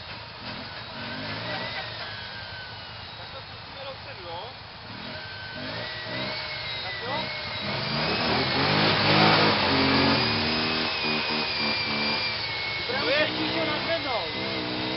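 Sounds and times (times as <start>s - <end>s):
quad bike engine revving: 0.0s - 14.9s.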